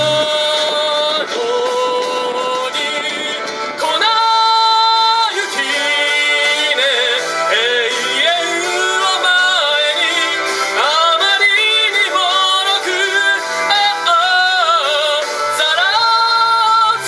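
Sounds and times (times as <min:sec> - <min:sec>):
backing track music: 0:00.0 - 0:17.0
person singing pop song: 0:00.0 - 0:17.0.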